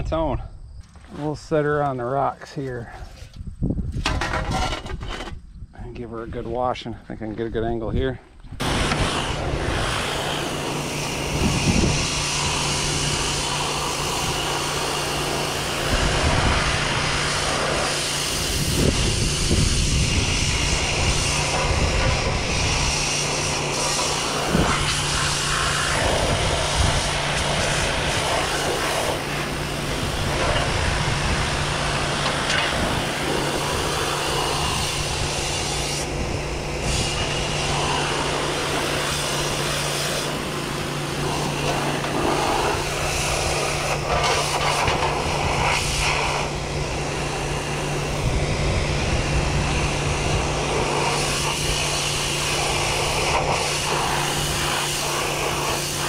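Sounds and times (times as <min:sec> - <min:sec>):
pressure washer jet on metal: 0:08.6 - 0:56.0.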